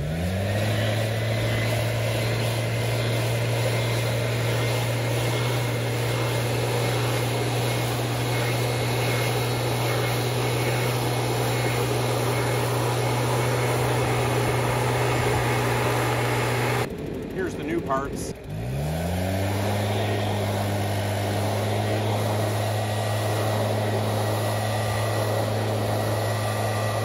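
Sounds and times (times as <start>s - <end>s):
air rushing over leaves: 0.0s - 27.0s
leaf blower engine running: 0.0s - 27.0s.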